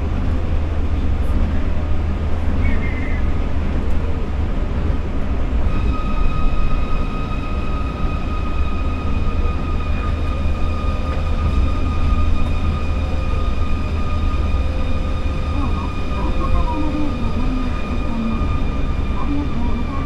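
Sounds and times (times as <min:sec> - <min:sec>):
high whine: 0:00.0 - 0:20.0
train low rumble: 0:00.0 - 0:20.0.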